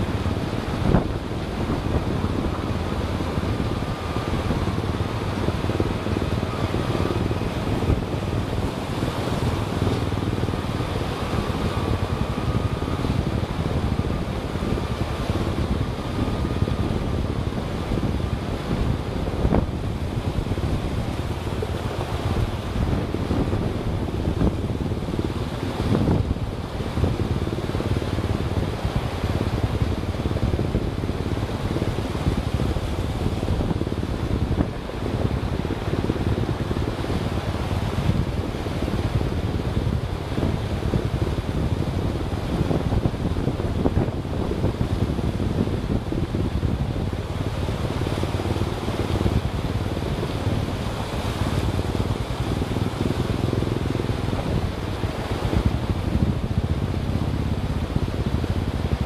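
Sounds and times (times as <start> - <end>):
faint steady whine: 0.0 - 59.0
vehicle driving on rough road: 0.0 - 59.0
wind noise on microphone: 0.0 - 59.0.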